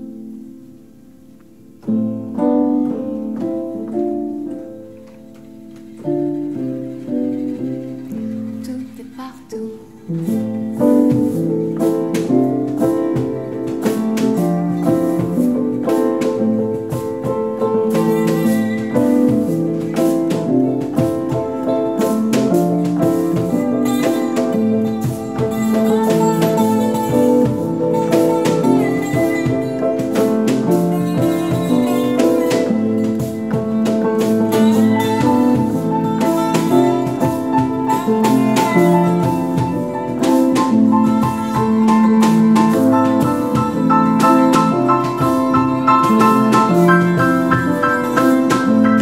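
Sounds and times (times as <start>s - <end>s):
piano: 0.0s - 49.0s
plucked acoustic guitar: 1.3s - 49.0s.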